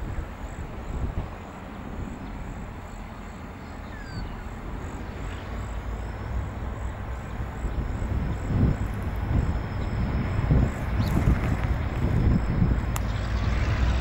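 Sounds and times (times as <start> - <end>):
wind buffeting microphone: 0.0 - 3.1, 3.9 - 14.0
diesel locomotive engine rumble: 0.0 - 14.0.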